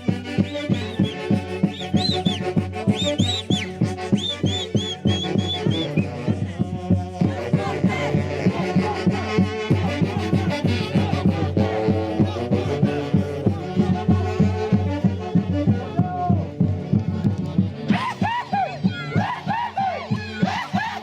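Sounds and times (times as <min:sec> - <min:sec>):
festival band music: 0:00.0 - 0:21.0.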